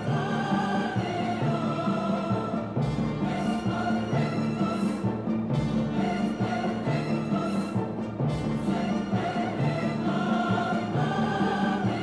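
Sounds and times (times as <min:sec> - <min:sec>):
orchestral music with drums: 0:00.0 - 0:12.0.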